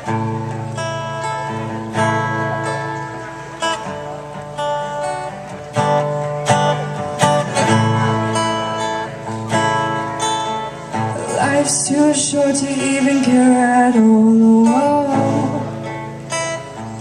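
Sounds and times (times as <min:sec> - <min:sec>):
acoustic guitar strummed: 0:00.0 - 0:17.0.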